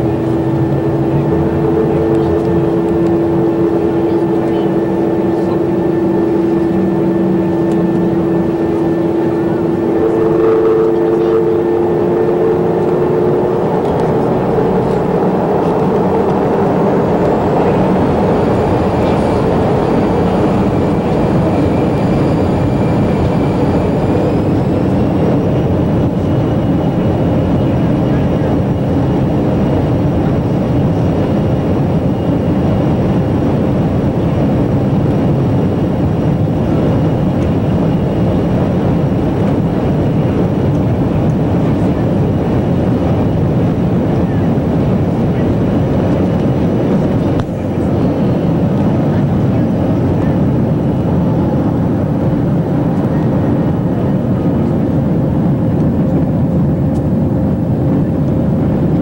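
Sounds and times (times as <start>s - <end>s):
airliner engines rumbling: 0.0s - 59.0s
thin high engine whine: 0.0s - 59.0s.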